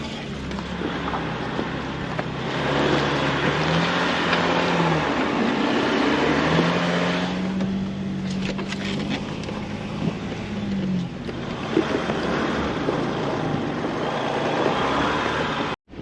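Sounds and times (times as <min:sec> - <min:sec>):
car engine pulling on dirt trail: 0:00.0 - 0:16.0
tyre and road noise: 0:00.0 - 0:16.0.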